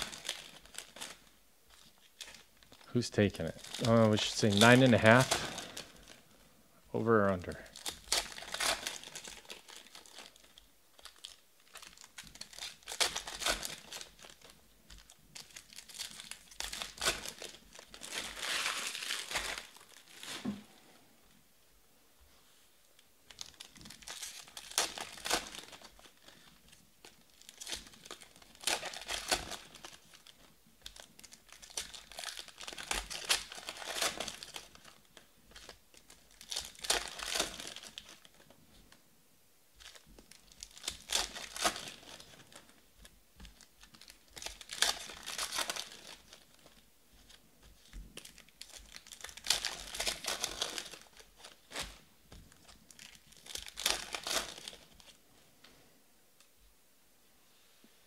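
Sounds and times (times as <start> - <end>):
foil packs tearing and crinkling: 0.0 - 6.2, 7.7 - 20.5, 23.3 - 38.5, 39.8 - 42.8, 43.4 - 55.2.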